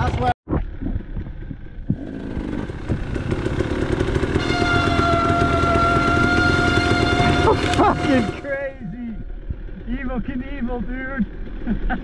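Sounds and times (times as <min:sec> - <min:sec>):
dirt bike engine revving: 0:01.9 - 0:11.8.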